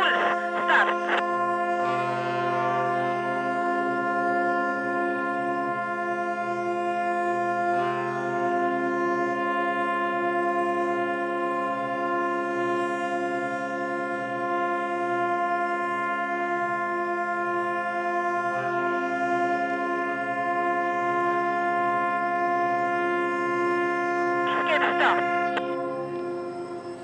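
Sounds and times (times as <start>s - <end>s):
ship horns sounding: 0.0s - 27.0s.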